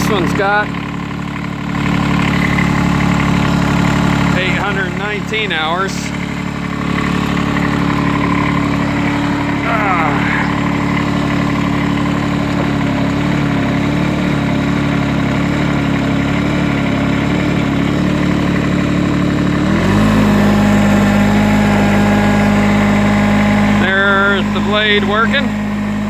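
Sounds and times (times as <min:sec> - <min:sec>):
hydraulic blade working: 0:00.0 - 0:26.0
tractor engine idling: 0:00.0 - 0:26.0.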